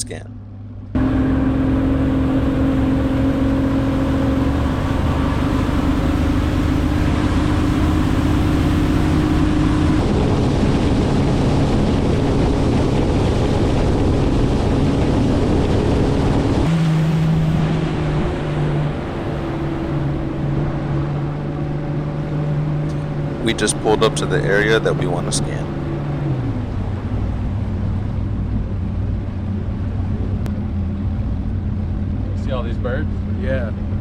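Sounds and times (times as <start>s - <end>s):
boat motor running: 0.0s - 34.0s
wind and water rushing: 1.0s - 30.4s.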